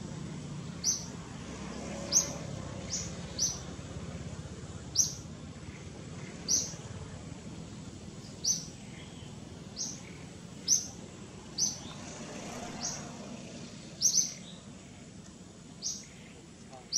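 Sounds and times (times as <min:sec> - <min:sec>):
faint background noise: 0:00.0 - 0:16.9
bird chirping: 0:00.7 - 0:01.3, 0:01.9 - 0:03.8, 0:04.8 - 0:15.0, 0:15.7 - 0:16.9.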